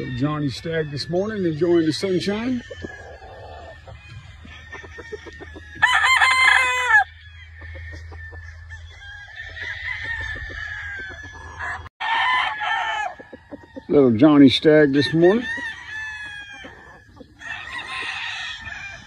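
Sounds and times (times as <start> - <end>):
distant roosters crowing: 0.0 - 19.0
rooster crowing loudly: 2.5 - 13.9, 14.9 - 19.0.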